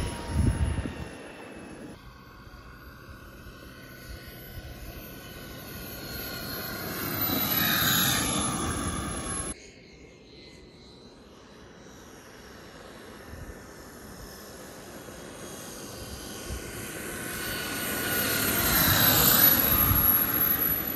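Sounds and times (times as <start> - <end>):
distant model airplane flying: 0.0 - 9.6, 11.1 - 20.9
model airplane motor passing: 0.0 - 9.6, 12.0 - 20.9.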